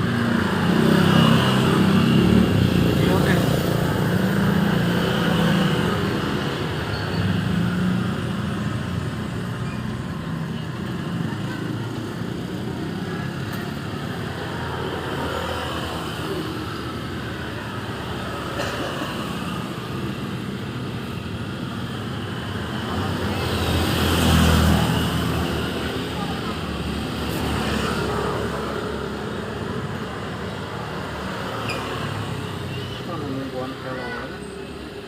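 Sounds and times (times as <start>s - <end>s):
vehicle engines running: 0.0s - 35.0s.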